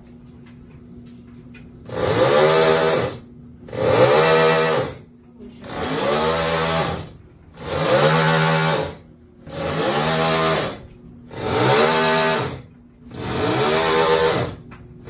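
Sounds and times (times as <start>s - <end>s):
rough grinding noise: 1.8s - 5.0s, 5.6s - 14.6s.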